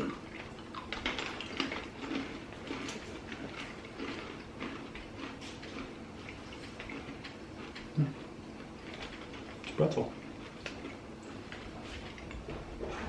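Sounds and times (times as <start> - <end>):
people chewing crunchy snacks: 0.0 - 13.0.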